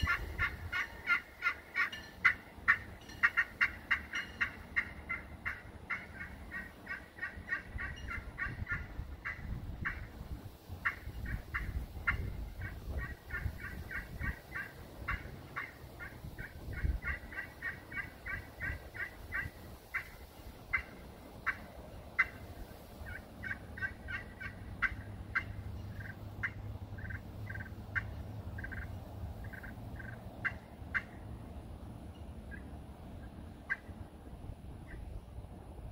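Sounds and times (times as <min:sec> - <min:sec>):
turkey call yelping: 0:00.0 - 0:10.1, 0:10.8 - 0:21.6, 0:23.0 - 0:31.2.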